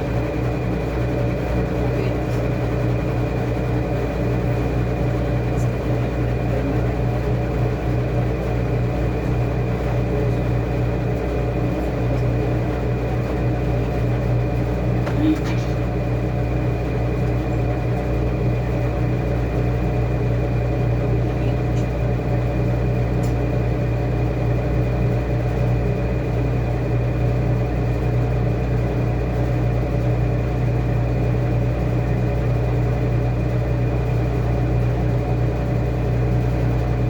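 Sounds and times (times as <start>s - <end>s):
washing machine motor hum: 0.0s - 37.0s.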